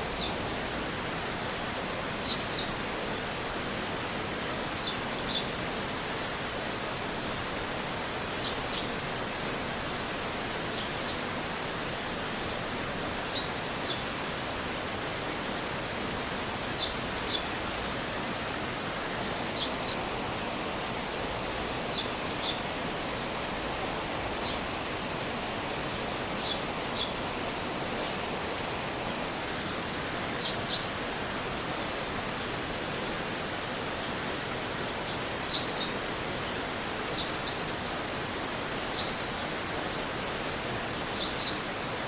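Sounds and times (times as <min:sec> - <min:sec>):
stream water rushing: 0:00.0 - 0:42.0.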